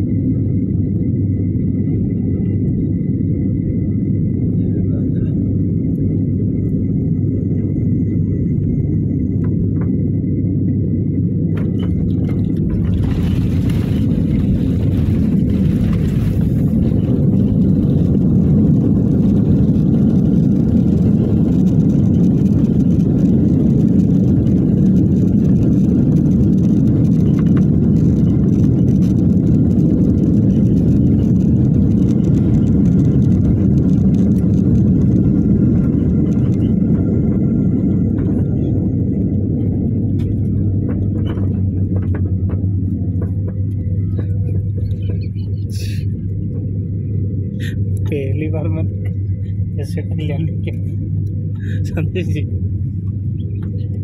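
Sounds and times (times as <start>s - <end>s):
jet engines and wheels rumbling: 0.0s - 54.0s.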